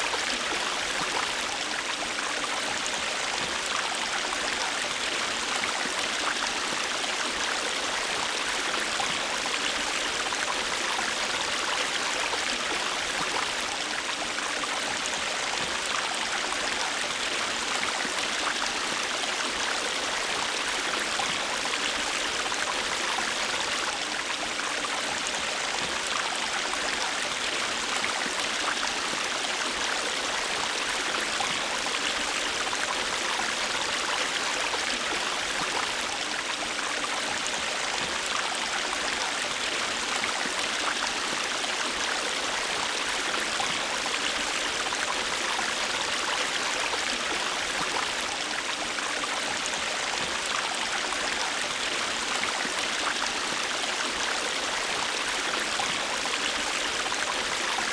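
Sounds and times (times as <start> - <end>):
river water flowing over rocks: 0.0 - 57.9.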